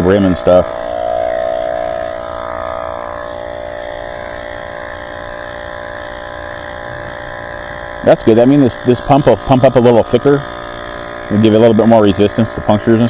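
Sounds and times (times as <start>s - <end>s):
electric air pump humming: 0.0s - 13.0s.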